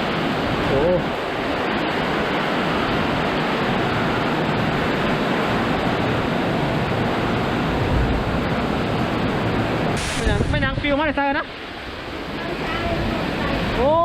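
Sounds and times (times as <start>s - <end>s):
rain: 0.0s - 14.0s
strong wind: 0.0s - 14.0s.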